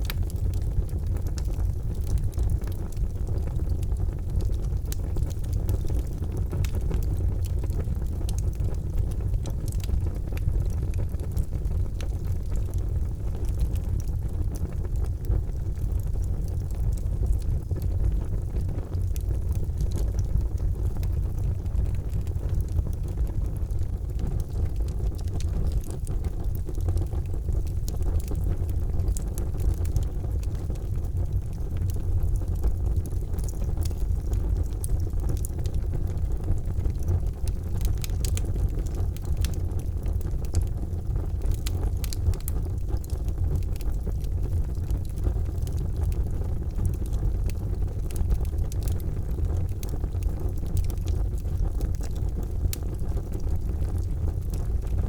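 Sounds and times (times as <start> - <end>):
charcoal fire crackling: 0.0 - 55.0.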